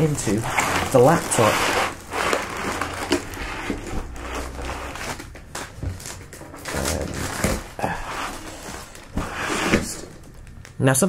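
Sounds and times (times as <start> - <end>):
plastic wrapping crinkling: 0.0 - 10.9.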